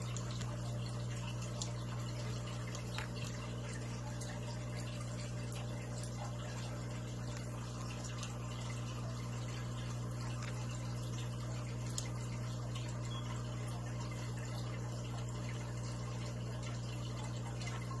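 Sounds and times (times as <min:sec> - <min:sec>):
pump humming: 0:00.0 - 0:18.0
water trickling and bubbling: 0:00.0 - 0:18.0.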